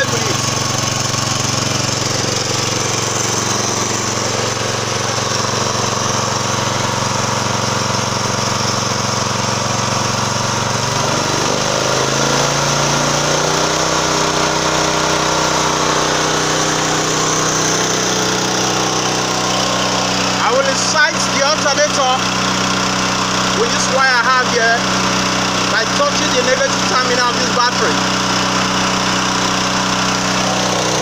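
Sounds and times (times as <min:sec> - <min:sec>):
petrol engine running: 0:00.0 - 0:31.0.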